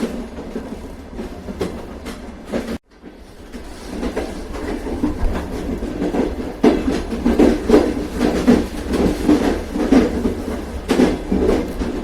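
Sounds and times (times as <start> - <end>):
train rumbling on track: 0.0 - 12.0
wheel clicks over rail joints: 0.0 - 12.0.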